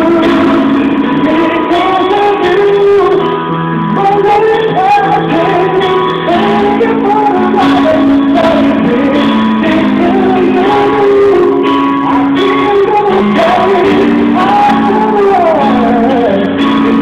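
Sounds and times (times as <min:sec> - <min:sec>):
instrumental backing chords: 0:00.0 - 0:17.0
man singing slow ballad: 0:00.0 - 0:17.0.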